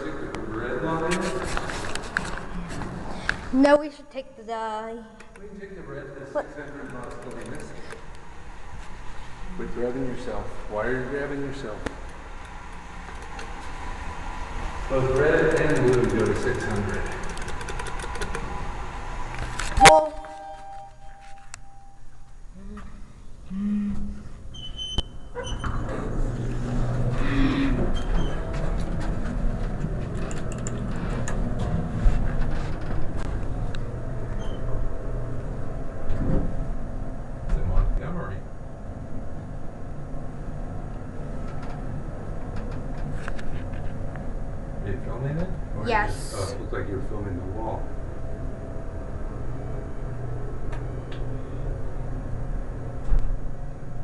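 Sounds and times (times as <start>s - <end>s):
elevator low hum: 0.0s - 4.7s, 5.5s - 54.0s
faint steady whine: 0.0s - 54.0s.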